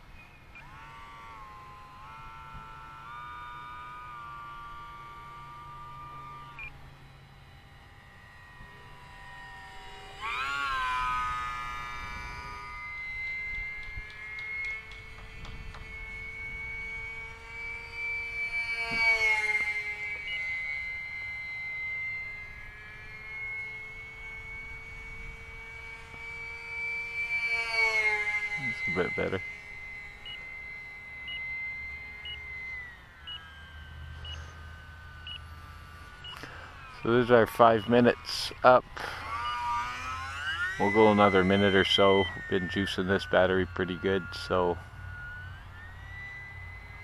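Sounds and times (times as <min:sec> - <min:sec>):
model plane motor whine: 0:00.0 - 0:47.0.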